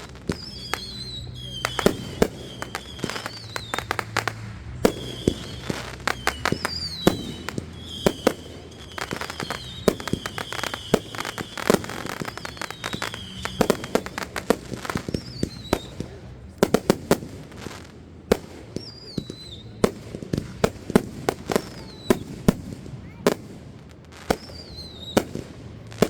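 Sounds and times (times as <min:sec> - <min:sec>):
fireworks whistles falling in pitch: 0:00.0 - 0:17.2, 0:18.6 - 0:20.0, 0:20.6 - 0:23.4, 0:24.3 - 0:26.0
fireworks bangs and crackles: 0:00.0 - 0:26.0.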